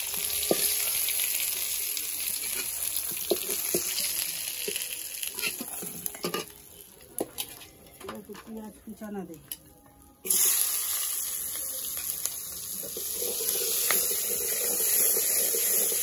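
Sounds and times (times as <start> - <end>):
hot oil sizzling in a wok: 0.0 - 7.6, 10.2 - 16.0.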